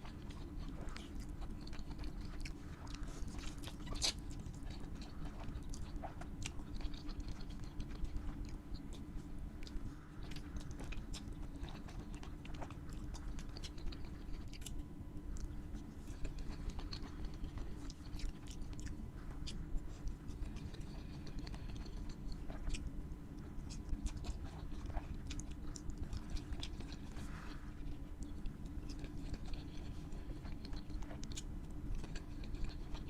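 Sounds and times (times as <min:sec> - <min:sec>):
chewing crispy food: 0:00.0 - 0:33.0
low steady hum: 0:00.0 - 0:33.0.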